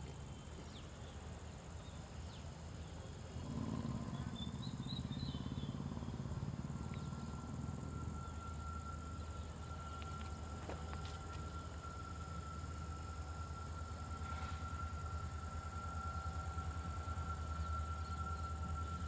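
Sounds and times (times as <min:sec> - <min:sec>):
thin insect-like whine: 0:00.0 - 0:19.0.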